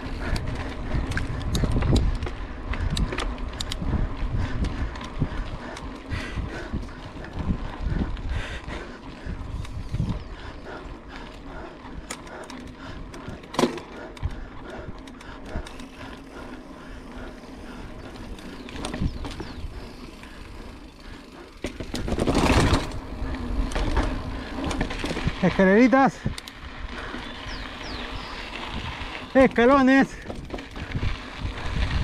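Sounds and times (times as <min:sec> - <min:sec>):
bike tyres rolling: 0:00.0 - 0:32.0
bike clicks and knocks: 0:00.1 - 0:08.0, 0:08.7 - 0:28.7, 0:29.6 - 0:32.0.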